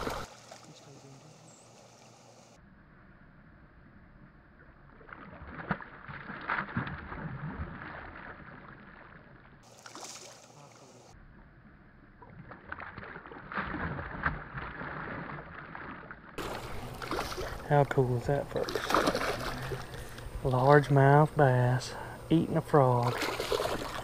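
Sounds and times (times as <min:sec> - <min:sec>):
water splashing and churning: 0:00.0 - 0:02.6, 0:04.8 - 0:11.2, 0:12.2 - 0:24.0.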